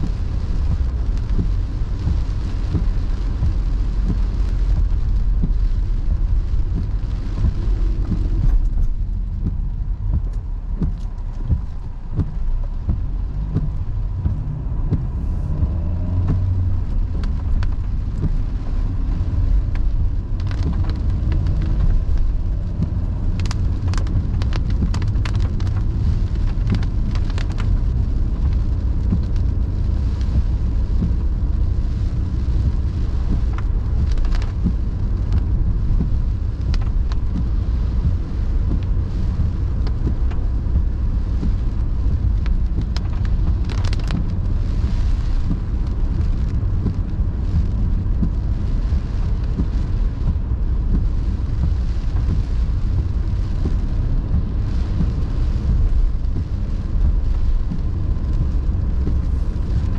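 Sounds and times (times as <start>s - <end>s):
engine and tyres rumbling: 0.0s - 59.9s
raindrops tapping on windshield: 0.0s - 59.9s.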